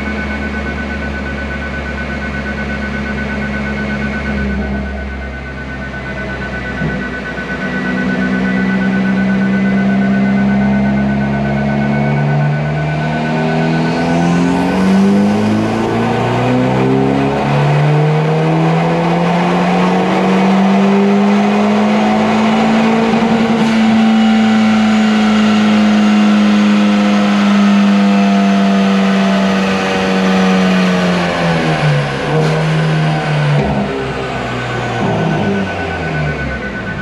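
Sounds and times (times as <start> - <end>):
car engine revving on dyno: 0.0 - 37.0.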